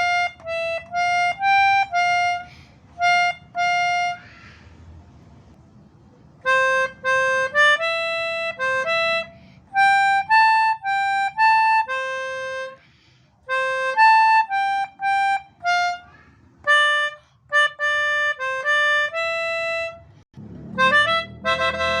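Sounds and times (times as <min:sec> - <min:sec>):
melodica playing reedy notes: 0:00.0 - 0:04.2, 0:06.4 - 0:12.8, 0:13.5 - 0:22.0.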